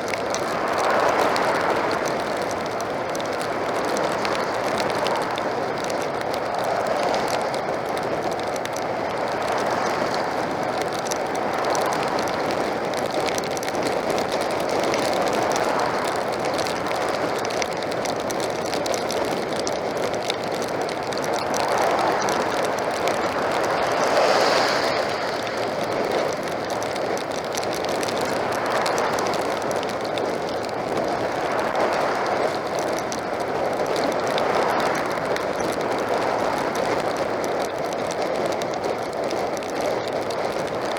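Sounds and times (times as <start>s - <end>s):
rushing wind: 0.0s - 40.9s
wet road noise: 0.0s - 40.9s.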